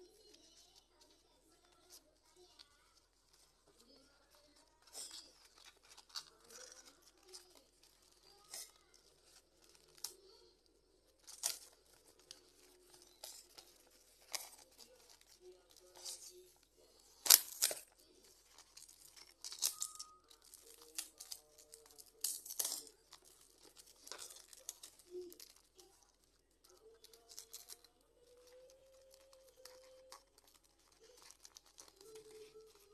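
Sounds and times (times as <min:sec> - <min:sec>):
paper crinkling: 0:00.0 - 0:32.9.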